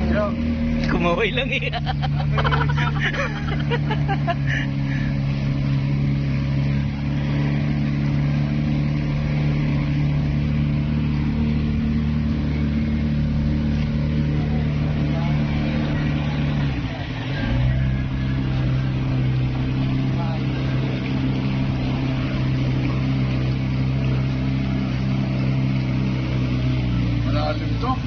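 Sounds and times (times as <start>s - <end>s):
boat engine running: 0.0s - 28.0s
water noise: 0.0s - 28.0s.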